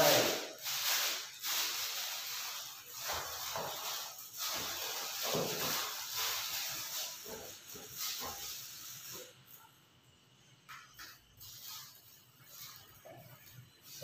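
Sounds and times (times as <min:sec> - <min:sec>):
plastic bag rustling: 0:00.0 - 0:09.4, 0:11.4 - 0:14.0.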